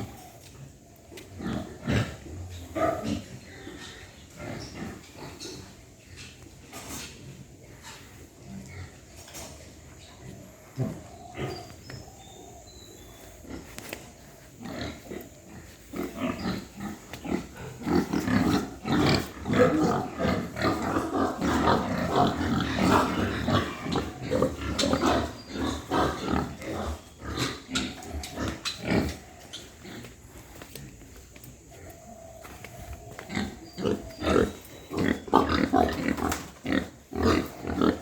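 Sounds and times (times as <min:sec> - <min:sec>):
pigs grunting: 0:00.0 - 0:38.0.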